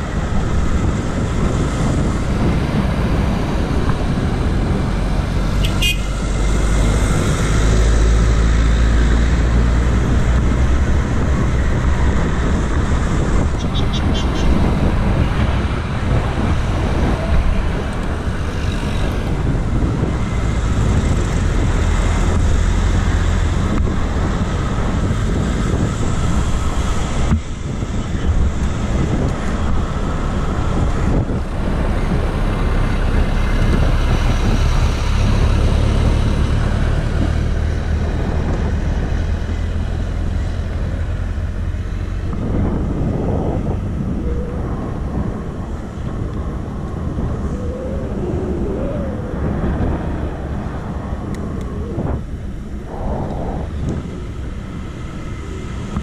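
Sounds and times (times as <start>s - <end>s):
road traffic: 0.0s - 56.0s
wind rumble on microphone: 0.0s - 56.0s.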